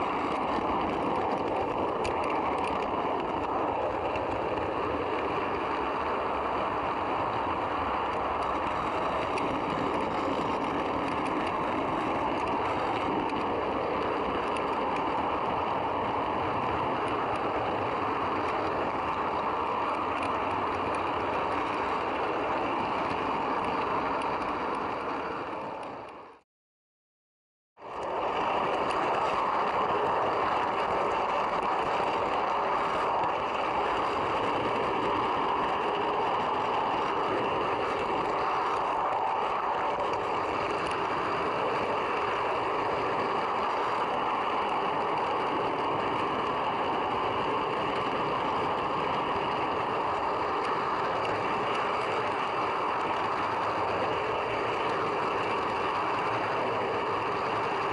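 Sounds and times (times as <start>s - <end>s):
model train coaches rumbling on track: 0.0s - 26.4s, 27.8s - 57.9s.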